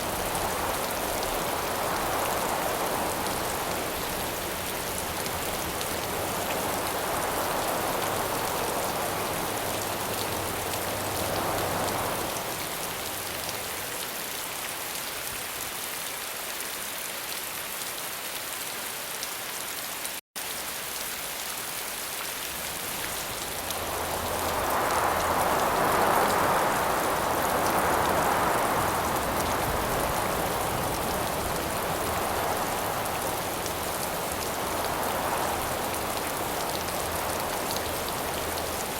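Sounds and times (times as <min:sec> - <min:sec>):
wind gusts: 0:00.0 - 0:15.7, 0:22.4 - 0:38.9
heavy rain hiss: 0:00.0 - 0:16.4, 0:20.5 - 0:38.9.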